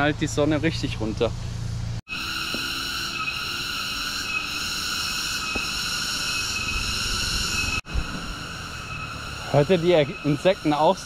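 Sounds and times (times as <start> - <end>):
chorus of tropical insects: 2.1 - 11.0.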